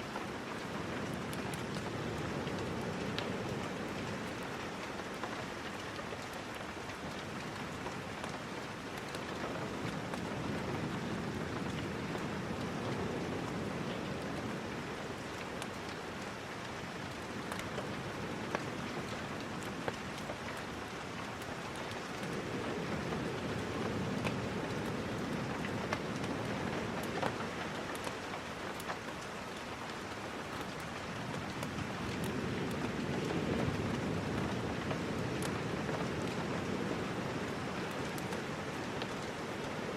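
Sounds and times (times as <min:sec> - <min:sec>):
steady rain falling: 0:00.0 - 0:39.9
sharp drips and ticks: 0:00.1 - 0:39.9.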